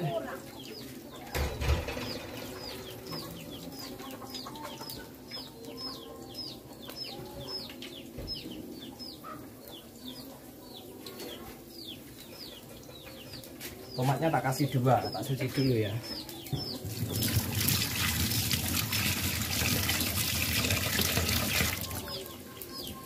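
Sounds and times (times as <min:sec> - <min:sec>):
bird chirping: 0:00.1 - 0:17.4, 0:21.3 - 0:23.0.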